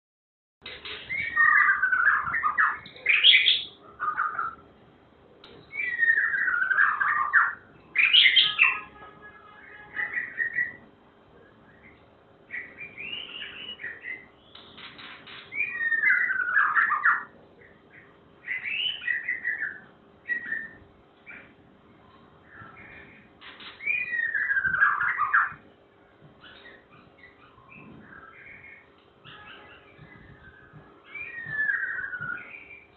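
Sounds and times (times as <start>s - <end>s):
songbird warbling: 0.7s - 4.6s, 5.6s - 8.9s, 11.8s - 21.6s, 22.4s - 25.6s, 26.4s - 32.9s.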